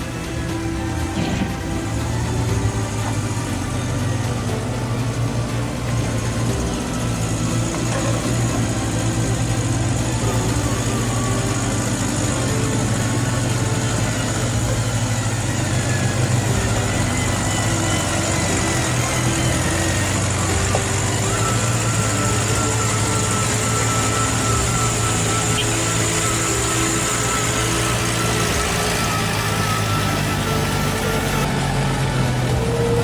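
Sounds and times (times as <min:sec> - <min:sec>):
toy truck engine hum: 0:00.0 - 0:33.0.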